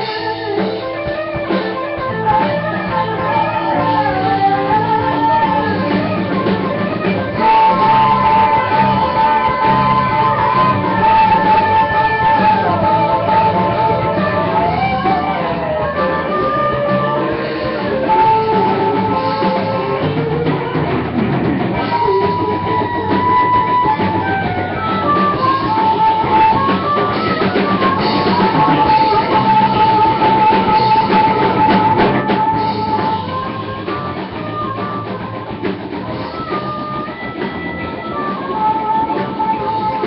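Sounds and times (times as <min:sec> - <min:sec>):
guitar lead with bending notes: 0:00.0 - 0:40.0
rock band playing live: 0:00.0 - 0:40.0.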